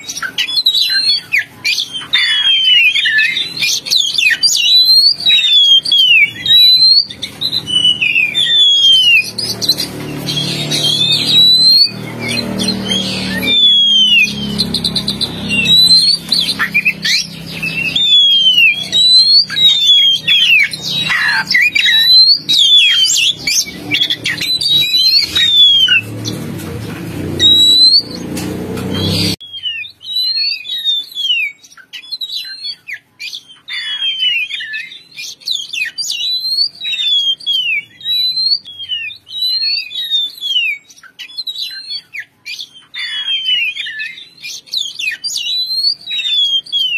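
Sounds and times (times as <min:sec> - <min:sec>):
bird whistled calls: 0:00.0 - 0:26.4, 0:27.3 - 0:46.9.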